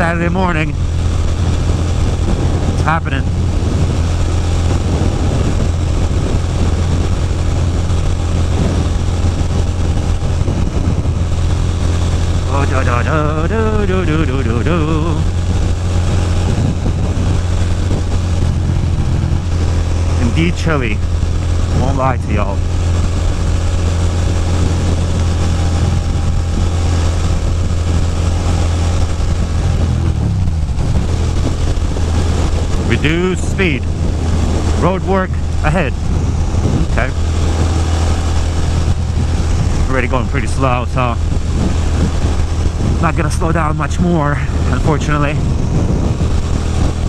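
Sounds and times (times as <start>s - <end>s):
motorcycle engine cruising: 0.0s - 47.0s
wind noise rushing: 0.0s - 47.0s.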